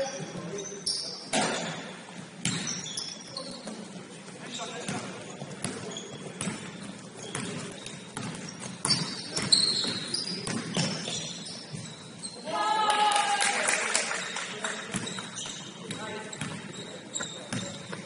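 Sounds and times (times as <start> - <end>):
sneakers squeaking: 0.0 - 12.6, 14.2 - 18.0.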